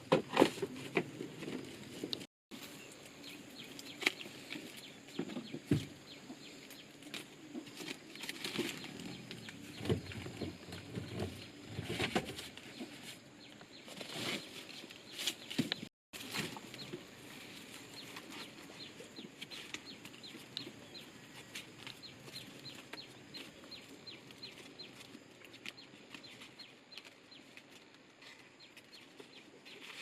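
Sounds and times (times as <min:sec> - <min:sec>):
rustling: 0:00.2 - 0:30.0.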